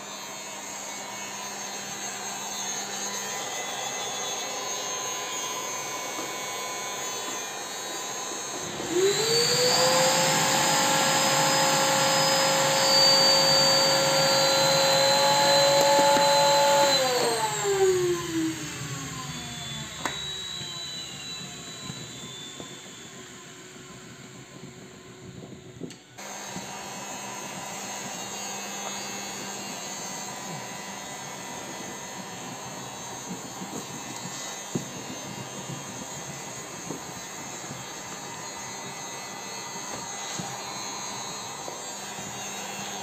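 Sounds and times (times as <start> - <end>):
electric motor whine: 0.0 - 43.0.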